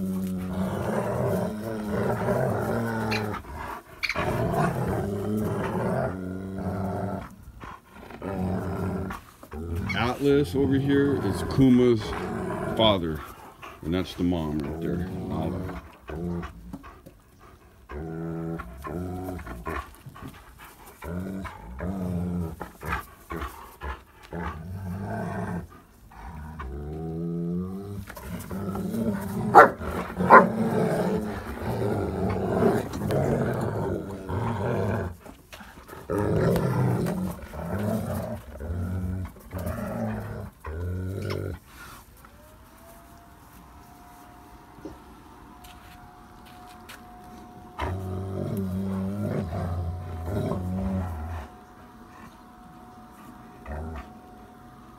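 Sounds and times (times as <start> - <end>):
dogs growling in play: 0.0 - 54.9.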